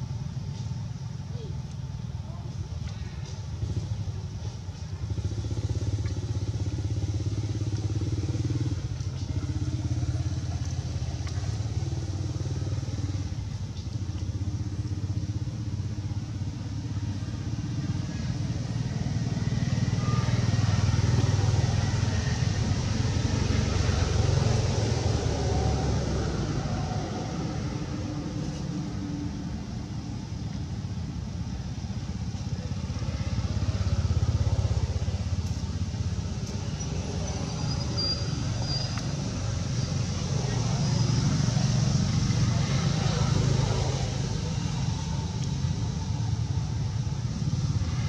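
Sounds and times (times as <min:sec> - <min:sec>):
engine rumbling: 0:00.0 - 0:48.0.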